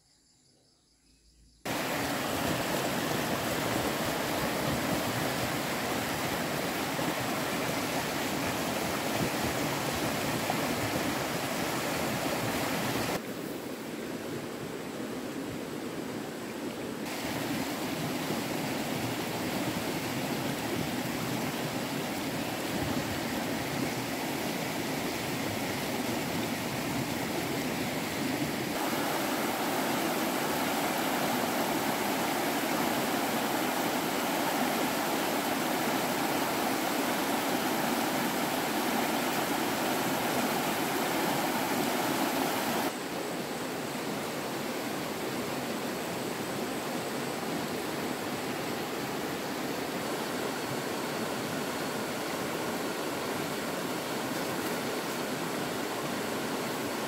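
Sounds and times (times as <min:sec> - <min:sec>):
stream water rushing: 0:01.7 - 0:57.0.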